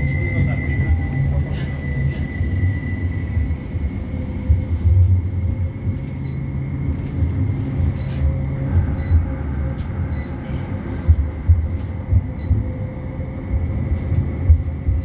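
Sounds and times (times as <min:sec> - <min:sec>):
tram interior rumble: 0:00.0 - 0:15.0.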